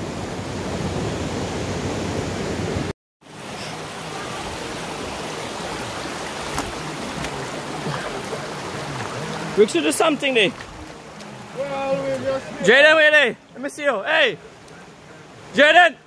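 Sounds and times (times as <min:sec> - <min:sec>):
river rushing over rocks: 0:00.2 - 0:16.0.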